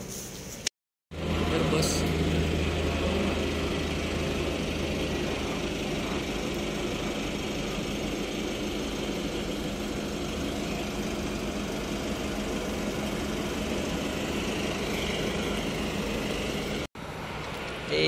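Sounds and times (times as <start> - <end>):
engine idling: 1.1 - 18.0.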